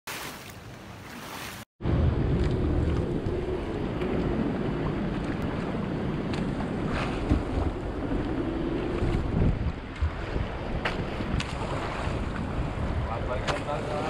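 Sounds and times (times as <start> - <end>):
water washing against hull: 0.1 - 14.0
boat engine humming: 1.8 - 14.0
wind buffeting microphone: 1.8 - 14.0.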